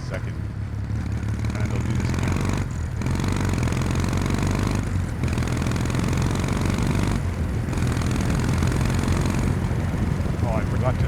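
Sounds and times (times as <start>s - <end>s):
motorcycle engine pulling at low revs: 0.0s - 11.0s.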